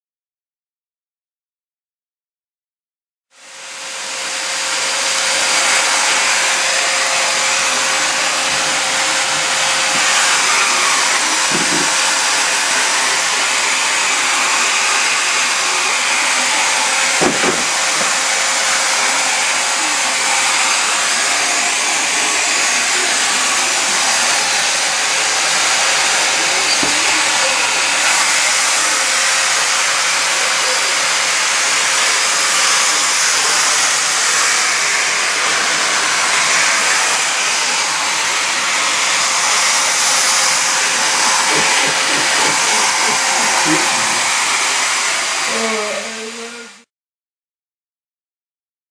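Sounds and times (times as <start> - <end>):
vacuum cleaner running: 3.4 - 46.9.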